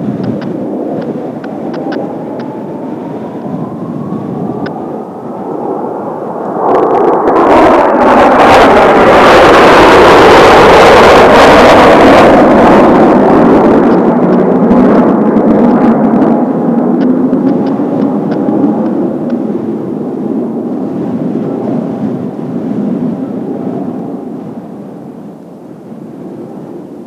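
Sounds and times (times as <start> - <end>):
jet planes passing low: 0.0 - 27.0.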